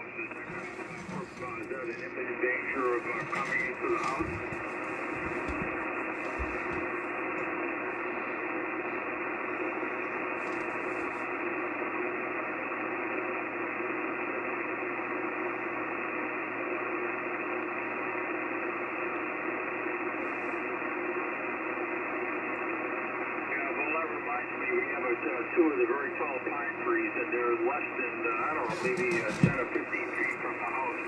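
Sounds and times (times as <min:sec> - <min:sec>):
radio static hiss: 0:00.0 - 0:31.0.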